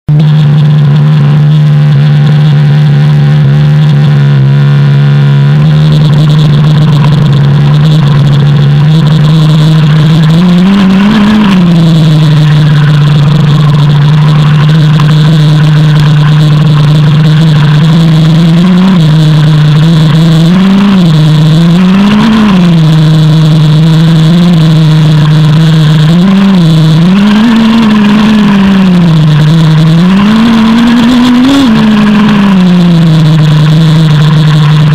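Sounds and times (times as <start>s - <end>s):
small two-stroke engine buzzing: 0.1s - 34.9s.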